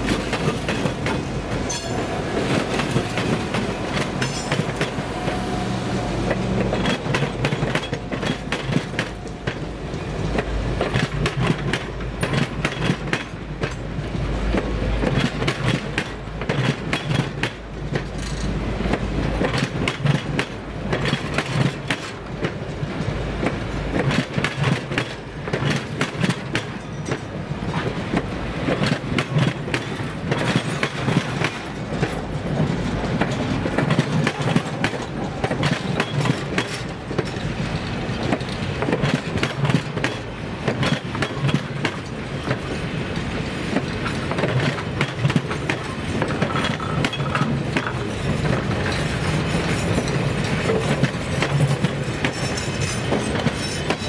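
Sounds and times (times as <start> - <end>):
wheels clicking over rail joints: 0.0 - 9.7, 10.4 - 54.0
train rumble: 0.0 - 54.0.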